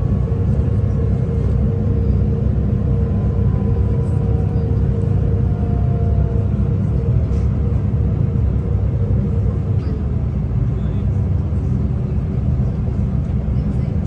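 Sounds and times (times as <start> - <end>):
diesel railcar rumble: 0.0 - 14.0.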